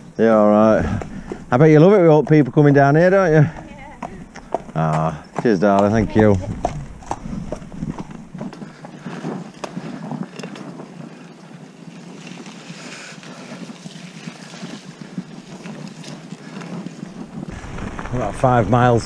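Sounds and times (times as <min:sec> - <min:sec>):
mountain bike rolling on trail: 0:00.0 - 0:19.0
wind buffeting microphone: 0:00.0 - 0:19.0.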